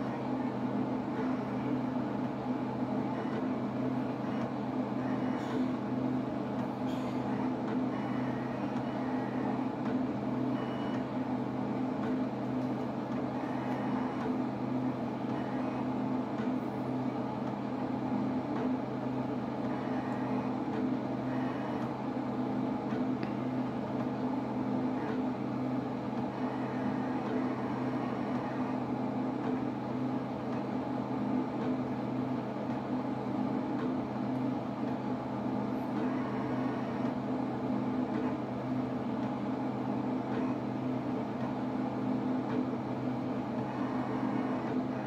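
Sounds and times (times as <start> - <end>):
plotter motors humming: 0.0 - 45.0.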